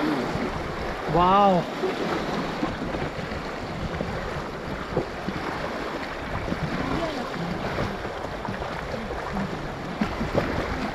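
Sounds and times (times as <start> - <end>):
river water rushing and splashing: 0.0 - 10.9.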